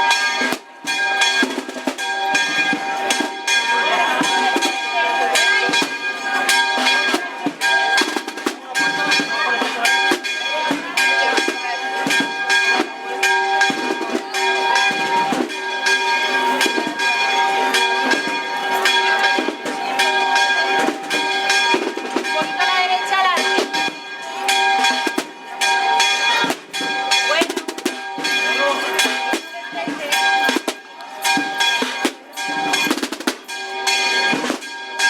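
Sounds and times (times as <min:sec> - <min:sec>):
snare drums beating: 0:00.0 - 0:34.9
church bells ringing: 0:00.0 - 0:35.0
crowd talking: 0:00.0 - 0:35.0.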